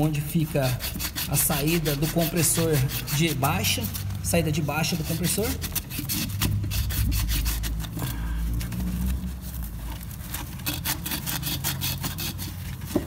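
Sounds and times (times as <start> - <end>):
sandpaper scrubbing on copper: 0.0 - 8.1, 9.6 - 13.0.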